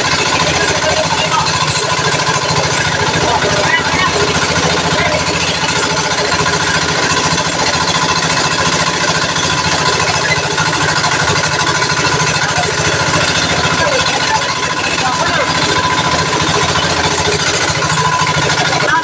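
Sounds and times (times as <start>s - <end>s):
fibre stripping machine: 0.0s - 19.0s
small engine running: 0.0s - 19.0s.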